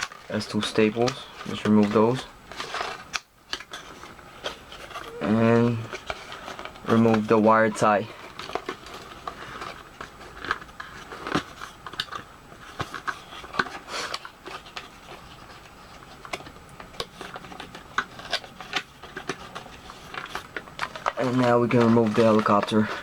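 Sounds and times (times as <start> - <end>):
twist tie and packaging rustling: 0.0 - 23.0.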